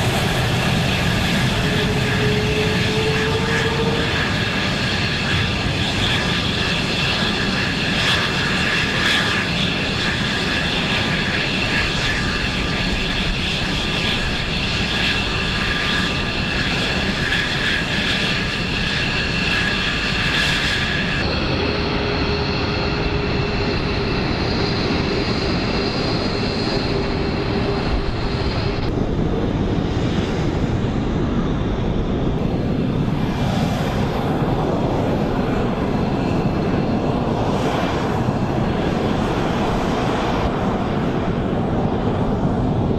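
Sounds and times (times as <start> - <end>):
high engine whine: 0.0 - 42.9
jet engines roaring: 0.0 - 42.9.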